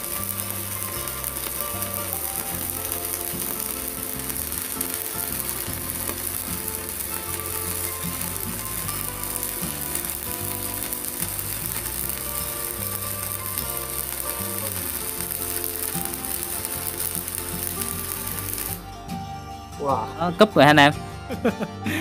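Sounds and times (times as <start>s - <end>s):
welding arc hissing: 0.0s - 18.9s
music: 0.0s - 22.0s.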